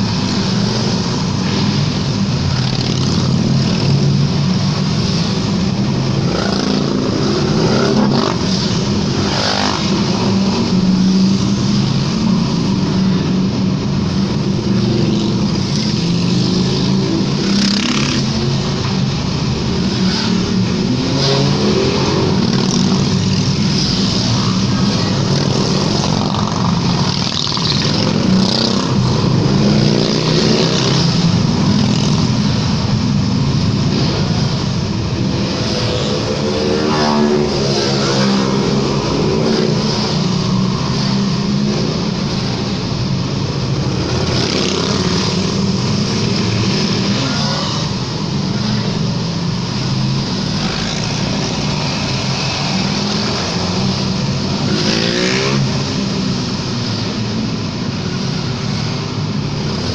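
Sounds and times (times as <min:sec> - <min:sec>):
motorcycles passing in tunnel: 0:00.0 - 0:59.9.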